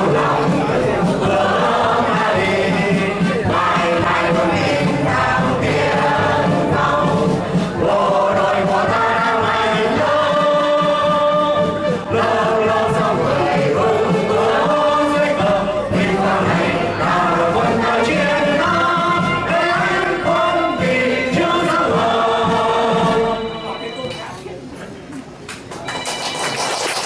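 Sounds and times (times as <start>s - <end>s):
choir singing: 0.0s - 23.6s
musical accompaniment: 0.0s - 24.6s, 25.7s - 27.0s.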